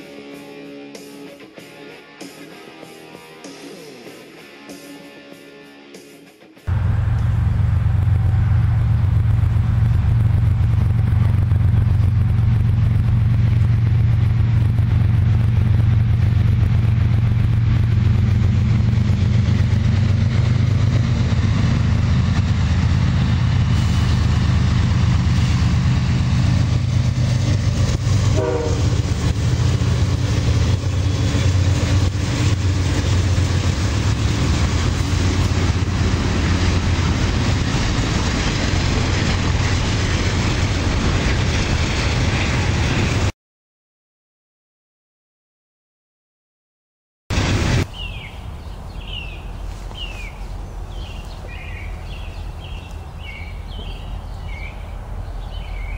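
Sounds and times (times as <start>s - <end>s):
train low rumble: 6.7s - 43.3s, 47.3s - 55.9s.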